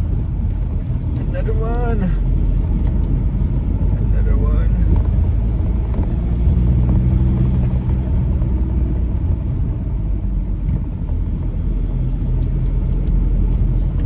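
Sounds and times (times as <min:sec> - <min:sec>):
engine drone: 0:00.0 - 0:14.0
road rumble: 0:00.0 - 0:14.0.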